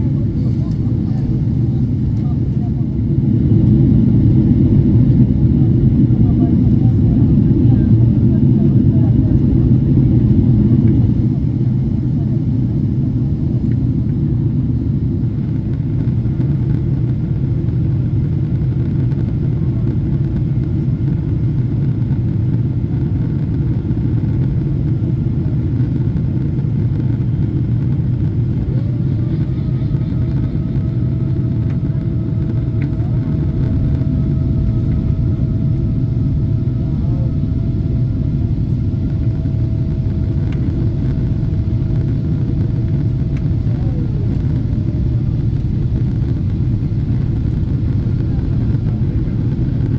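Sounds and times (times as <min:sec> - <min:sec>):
airliner cabin jet engine drone: 0:00.0 - 0:49.9.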